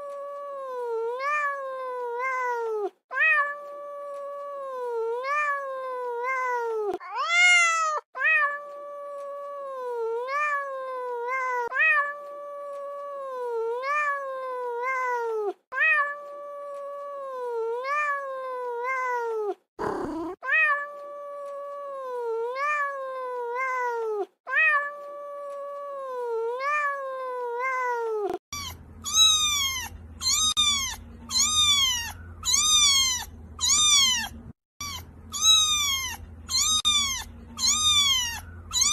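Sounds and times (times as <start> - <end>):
cat meowing: 0.0 - 38.9.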